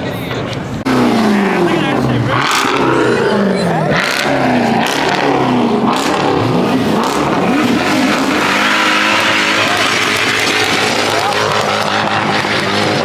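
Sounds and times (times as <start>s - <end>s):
car engine revving: 0.4s - 13.0s.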